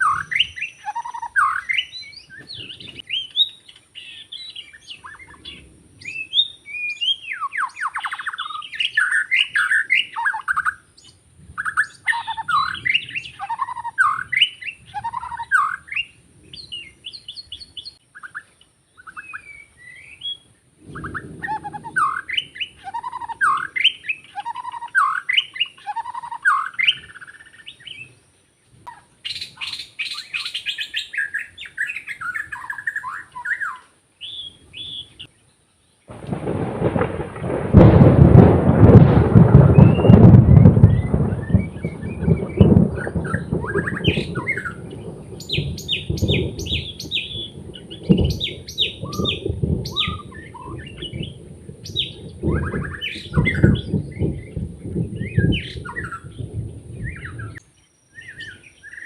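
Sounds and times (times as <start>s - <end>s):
bird singing whistled notes: 0.0s - 28.3s, 28.9s - 35.4s, 39.6s - 59.0s.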